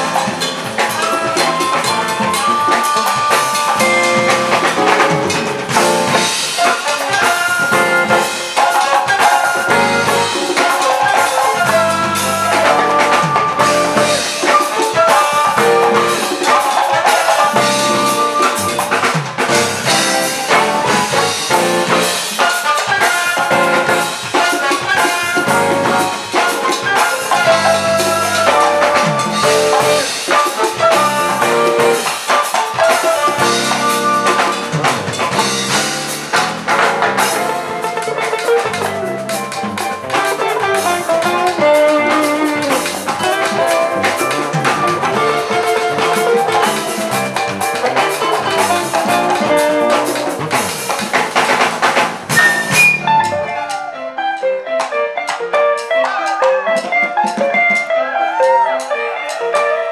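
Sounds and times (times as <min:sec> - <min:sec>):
congas and timbales: 0:00.0 - 0:59.9
latin jazz band playing: 0:00.0 - 0:59.9.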